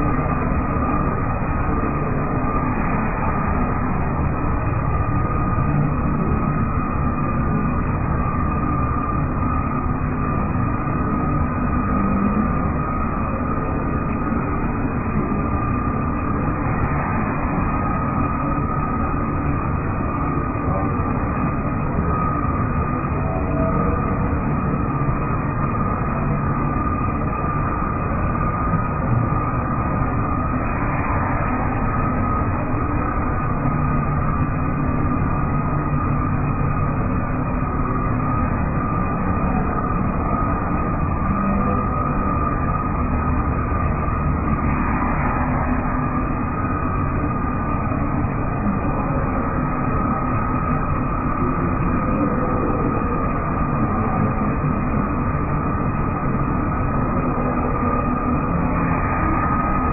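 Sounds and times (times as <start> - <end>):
constant high whine: 0.0 - 59.9
factory machinery drone: 0.0 - 59.9.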